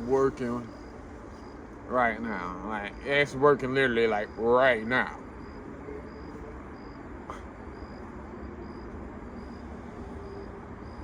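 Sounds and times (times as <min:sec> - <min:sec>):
high-pitched insect chirp: 0:00.0 - 0:11.0.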